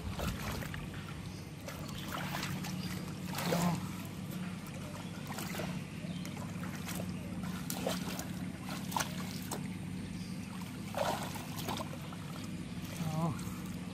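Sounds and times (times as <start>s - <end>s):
steady low hum: 0.0s - 13.9s
water trickling and splashing: 0.0s - 13.9s.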